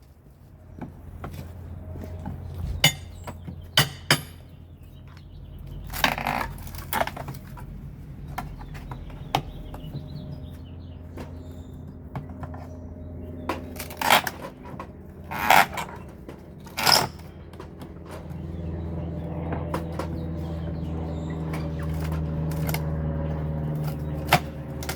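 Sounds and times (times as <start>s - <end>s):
steady low hum: 0.2s - 6.0s, 9.1s - 24.9s.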